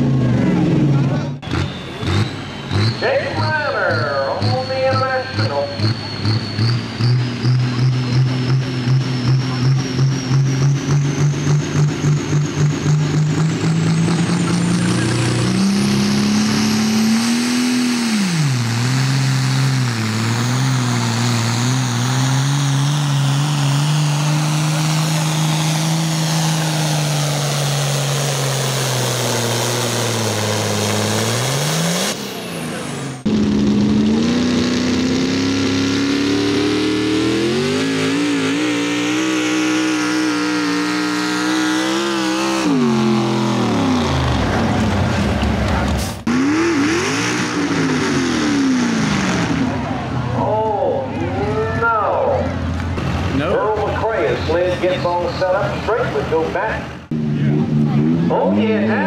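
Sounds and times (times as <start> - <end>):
tractor engine under load: 0.0 - 47.8
pickup truck engine running hard: 0.0 - 59.0.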